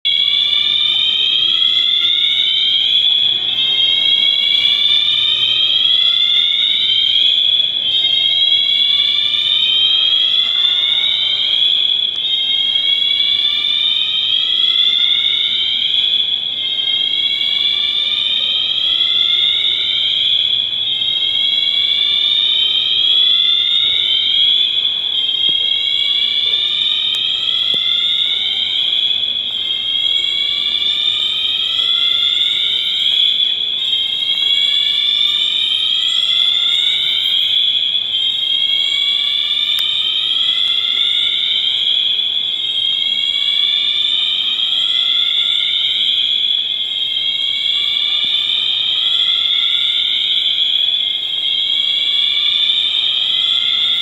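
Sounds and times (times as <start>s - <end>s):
fire alarm sweeping tone: 0.0s - 54.0s.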